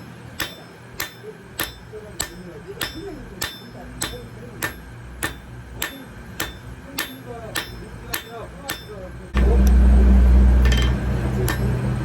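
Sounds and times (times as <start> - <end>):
hammer striking anvil: 0.4 - 9.6, 10.6 - 11.8.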